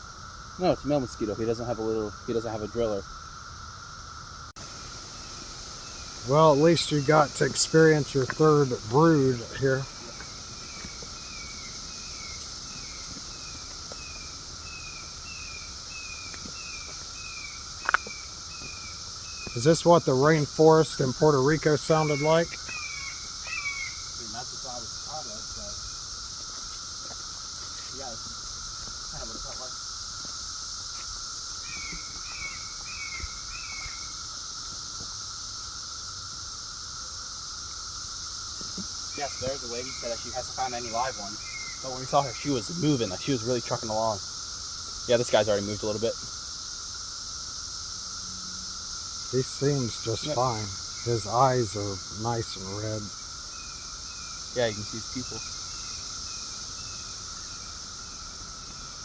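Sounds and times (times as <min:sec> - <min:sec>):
cicadas droning: 0:00.0 - 0:59.0
short falling cicada notes: 0:00.0 - 0:59.0.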